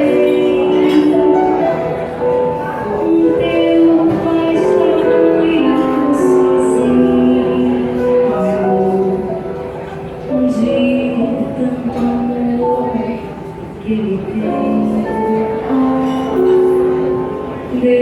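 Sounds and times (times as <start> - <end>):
live slow melodic music: 0.0 - 18.0.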